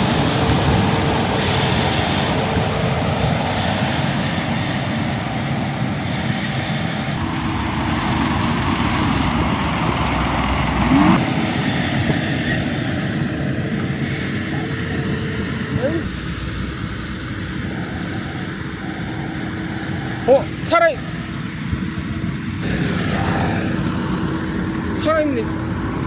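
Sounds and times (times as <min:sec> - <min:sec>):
combine harvester rumbling: 0:00.0 - 0:26.0.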